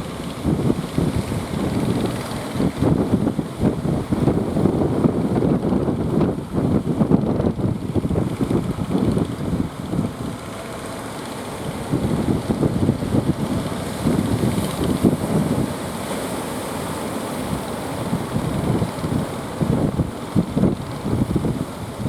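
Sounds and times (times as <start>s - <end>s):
wind buffeting microphone: 0.0s - 10.7s, 11.6s - 16.3s, 17.4s - 22.0s
boat motors: 0.0s - 22.0s
sea surf: 0.0s - 22.0s.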